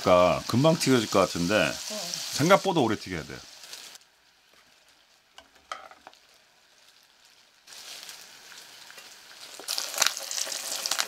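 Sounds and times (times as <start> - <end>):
chicken skin sizzling in oil: 0.0 - 11.0.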